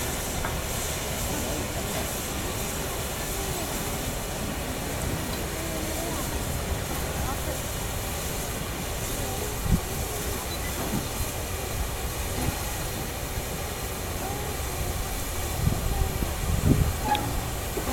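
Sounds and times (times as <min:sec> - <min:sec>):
soft steam hiss: 0:00.0 - 0:17.9
steam locomotive rumbling: 0:00.0 - 0:17.9.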